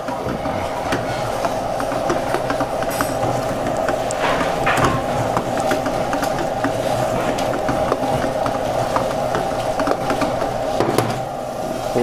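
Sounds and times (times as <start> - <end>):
stirring scrapes and clicks: 0.0 - 11.0
steady hum: 0.0 - 12.0.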